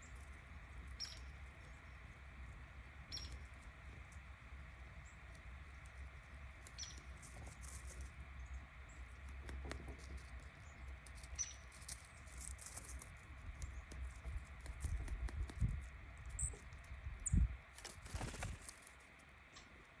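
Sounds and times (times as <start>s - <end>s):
woodpecker tapping and scratching: 0.0s - 17.0s.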